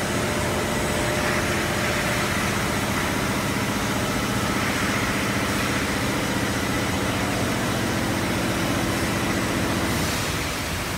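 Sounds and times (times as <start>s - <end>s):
machinery humming: 0.0s - 10.9s.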